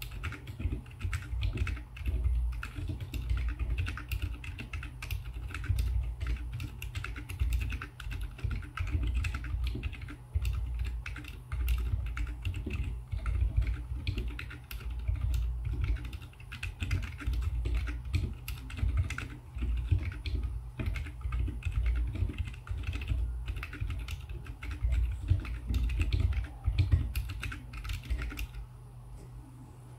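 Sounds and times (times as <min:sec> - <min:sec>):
typing on mechanical keyboard: 0:00.0 - 0:28.6.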